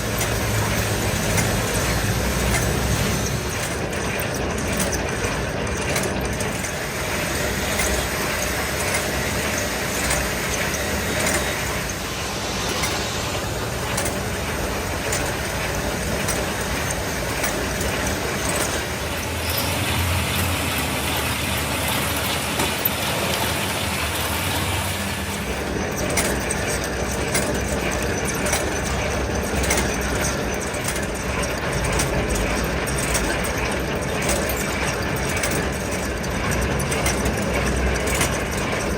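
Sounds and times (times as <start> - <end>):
workshop machinery running: 0.0 - 38.9.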